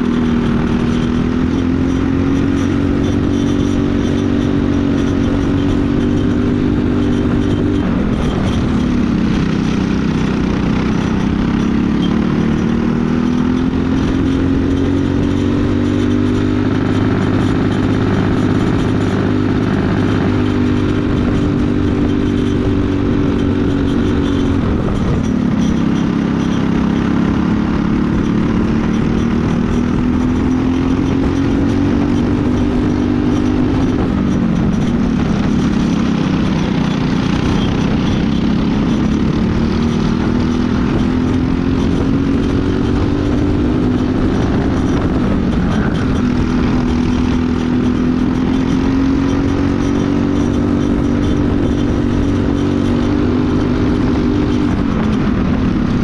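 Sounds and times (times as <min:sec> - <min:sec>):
kart engine racing at full throttle: 0:00.0 - 0:56.0.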